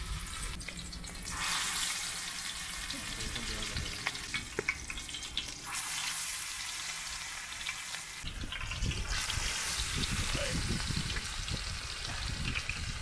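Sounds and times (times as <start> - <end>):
patties sizzling in oil: 0.0 - 13.0.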